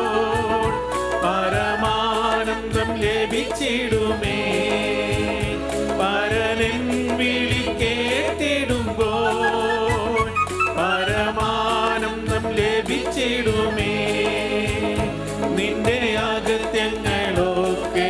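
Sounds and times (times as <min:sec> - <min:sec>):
group of voices singing: 0:00.0 - 0:18.0
worship song on electronic keyboards: 0:00.0 - 0:18.0.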